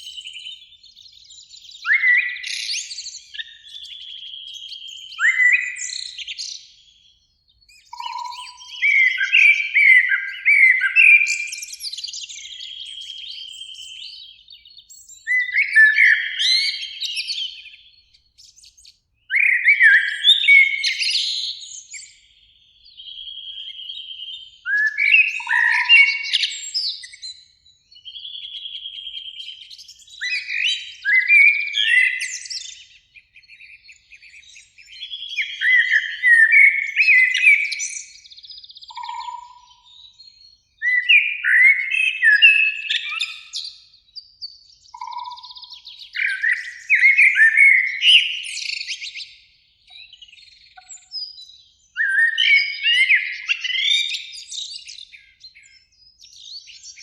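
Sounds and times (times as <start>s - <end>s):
blackbirds singing: 0.0s - 57.0s.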